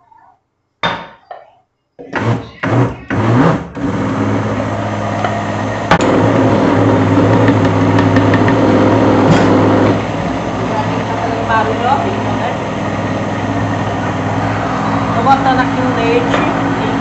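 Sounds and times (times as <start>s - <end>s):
blender motor: 2.1s - 17.0s.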